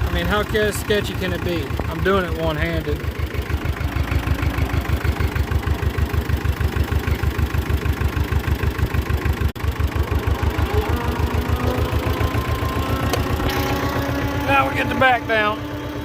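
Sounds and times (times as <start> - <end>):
heavy equipment engine chugging: 0.0 - 16.0.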